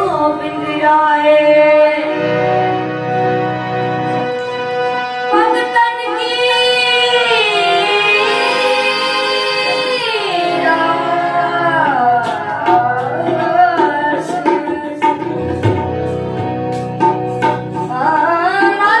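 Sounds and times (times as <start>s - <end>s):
boy singing long gliding notes: 0.0s - 16.7s, 17.4s - 19.0s
sustained accompaniment: 0.0s - 19.0s.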